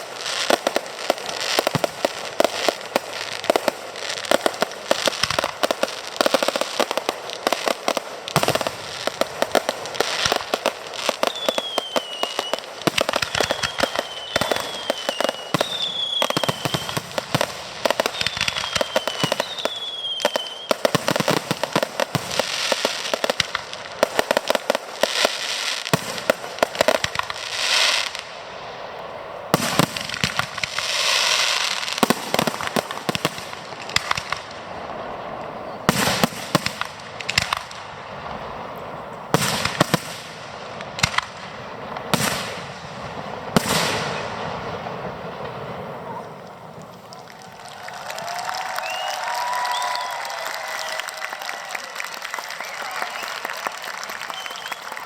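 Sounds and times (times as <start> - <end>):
fireworks crackling and banging: 0.0 - 55.0
fireworks whistling: 0.0 - 55.0.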